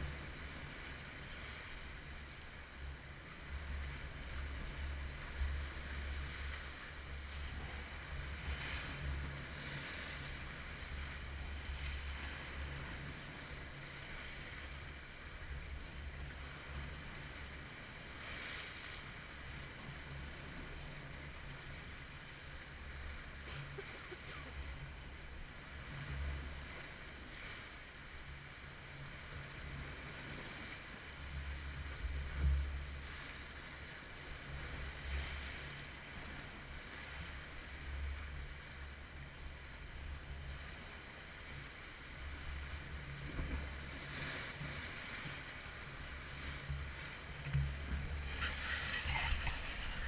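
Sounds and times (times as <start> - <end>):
sea waves washing onto beach: 0.0 - 50.0.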